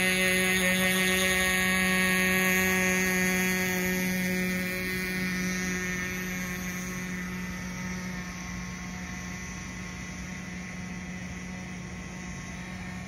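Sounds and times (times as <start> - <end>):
model boat engine whining: 0.0 - 13.0.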